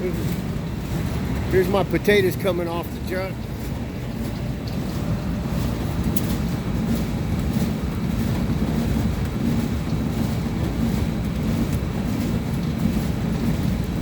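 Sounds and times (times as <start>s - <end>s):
machinery drone: 0.0s - 14.0s.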